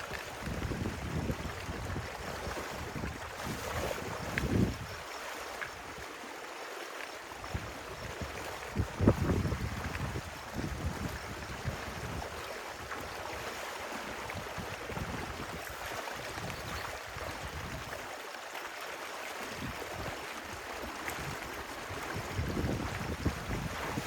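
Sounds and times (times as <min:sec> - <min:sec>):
wind rumble on microphone: 0:00.0 - 0:05.0, 0:07.4 - 0:18.0, 0:19.5 - 0:24.0
stream water flowing: 0:00.0 - 0:24.0.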